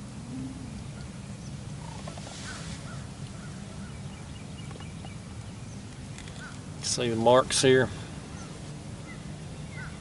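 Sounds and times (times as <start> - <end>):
low outdoor rumble: 0.0 - 10.0
faint bird calls: 0.2 - 6.7, 7.9 - 10.0.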